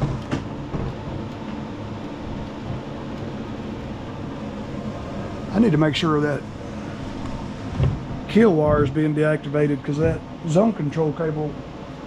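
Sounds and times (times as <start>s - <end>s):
fan running: 0.0s - 12.0s.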